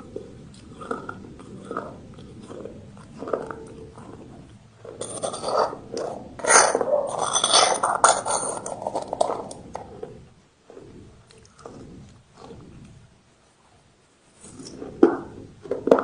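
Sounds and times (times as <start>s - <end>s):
brick being chewed: 0.0s - 13.0s.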